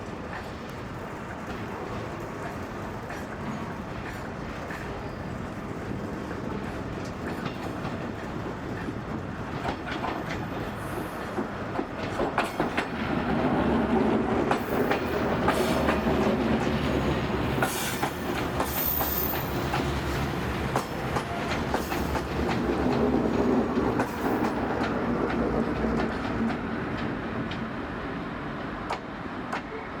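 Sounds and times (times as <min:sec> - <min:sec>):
train wheels clattering over rails: 0:00.2 - 0:27.8.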